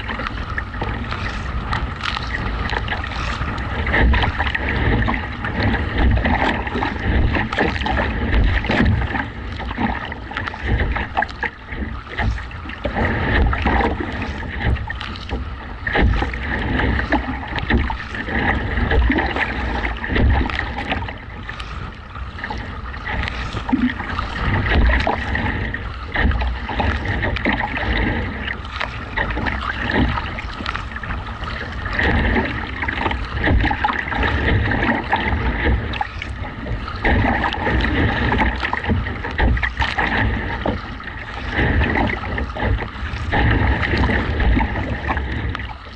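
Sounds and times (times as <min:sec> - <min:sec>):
paddle splashes: 0:00.0 - 0:45.9
waves slapping hull: 0:00.0 - 0:45.9.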